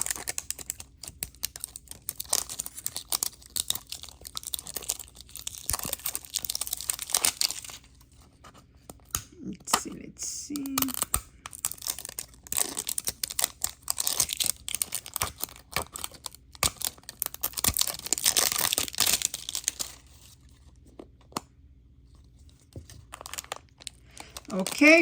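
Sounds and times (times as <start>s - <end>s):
packaging tearing and crinkling: 0.0s - 8.2s, 10.6s - 20.7s, 22.2s - 25.0s.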